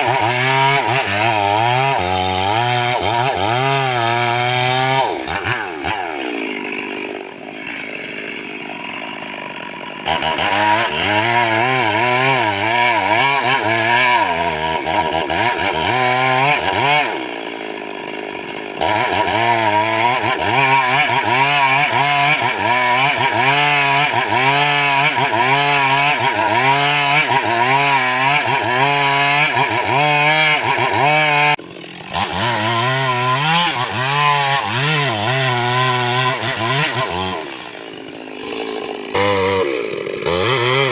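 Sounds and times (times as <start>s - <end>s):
chainsaw running: 0.0s - 40.9s.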